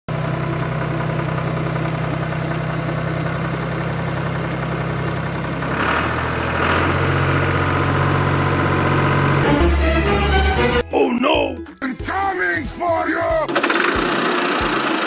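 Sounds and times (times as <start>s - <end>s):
tractor engine idling: 0.1s - 15.0s.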